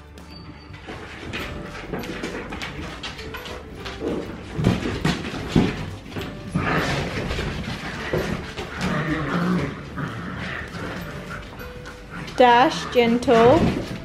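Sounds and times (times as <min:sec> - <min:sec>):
dogs vocalizing: 0:00.9 - 0:14.0
claws clicking on tiled floor: 0:01.0 - 0:12.4.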